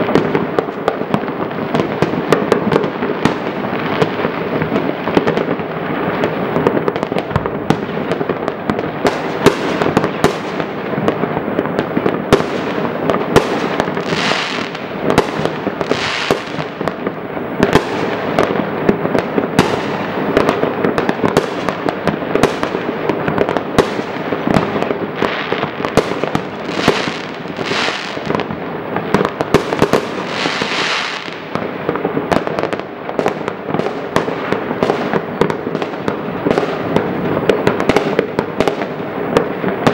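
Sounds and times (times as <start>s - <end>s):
sharp firework pops: 0.0s - 5.6s, 6.2s - 39.9s
distant fireworks bangs and crackles: 0.0s - 39.9s.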